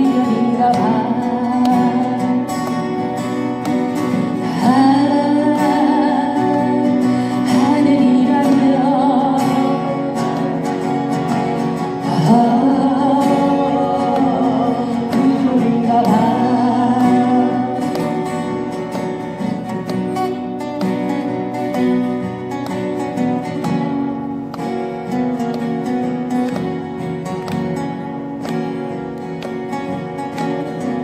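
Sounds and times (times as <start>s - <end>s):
person singing folk song: 0.0s - 31.0s
strummed acoustic guitar: 0.0s - 31.0s.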